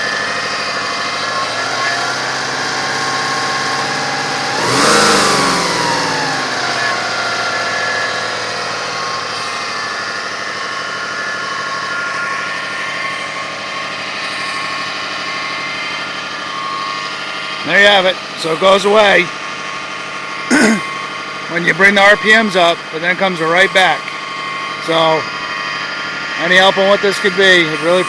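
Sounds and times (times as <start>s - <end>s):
car engine idling and revving: 0.0s - 28.0s
engine noise at idle: 0.0s - 28.0s.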